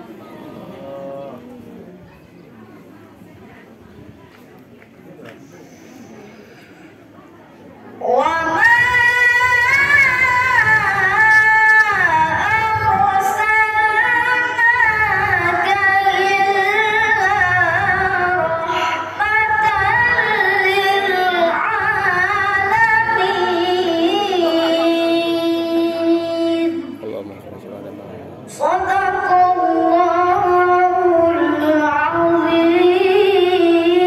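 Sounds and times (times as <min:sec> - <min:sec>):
boy reciting melodically over microphone: 0:05.4 - 0:34.0.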